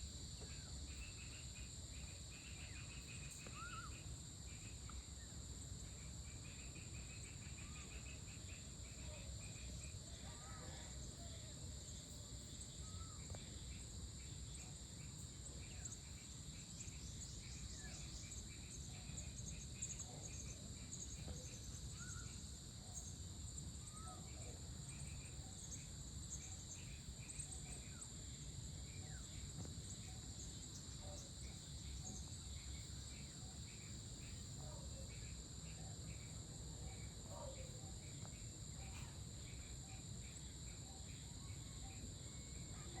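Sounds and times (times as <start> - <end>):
fast pulsing insect call: 0.0 - 43.0
insects trilling: 0.0 - 43.0.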